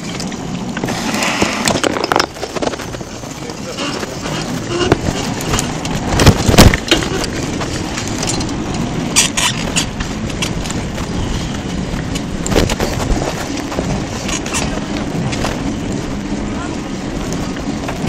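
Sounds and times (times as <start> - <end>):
bike and camera rattling: 0.0 - 18.0
bike tyres rolling on pavement: 0.0 - 18.0
wind rushing: 0.4 - 18.0.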